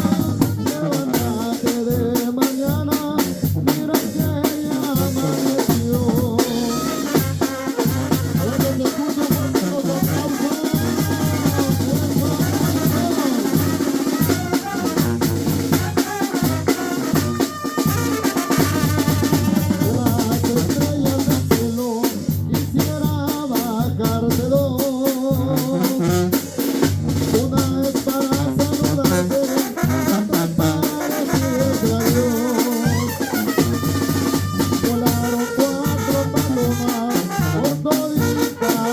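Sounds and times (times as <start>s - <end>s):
brass melody: 0.0s - 22.6s, 24.2s - 38.9s
bass drum beat: 0.0s - 38.9s
snare drum: 0.0s - 38.9s.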